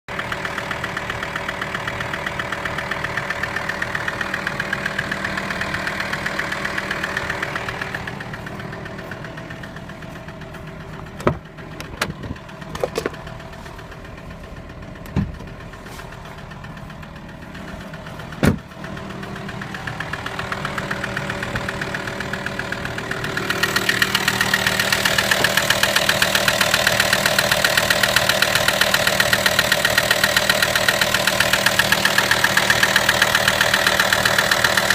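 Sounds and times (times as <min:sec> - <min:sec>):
diesel engine idling with knocking: 0:00.1 - 0:34.9.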